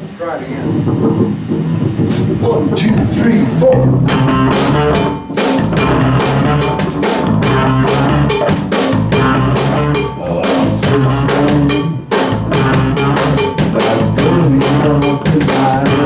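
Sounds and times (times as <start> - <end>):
drum kit beat: 0.0 - 16.0
rock band playing: 0.8 - 16.0.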